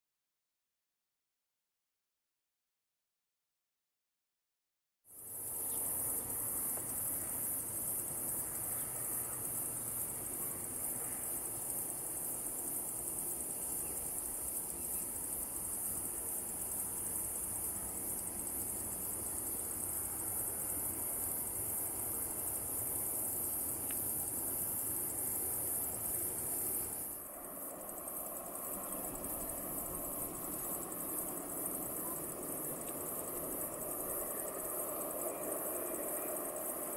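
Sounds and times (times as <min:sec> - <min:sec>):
insects trilling: 0:05.1 - 0:36.9.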